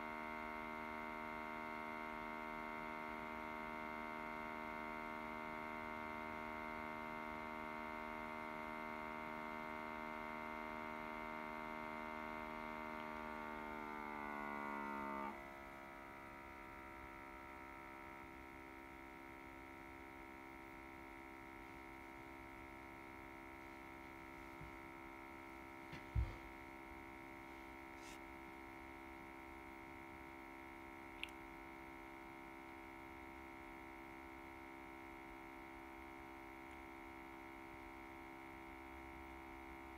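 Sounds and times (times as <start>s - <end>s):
audio feedback buzzing hum: 0.0s - 39.9s.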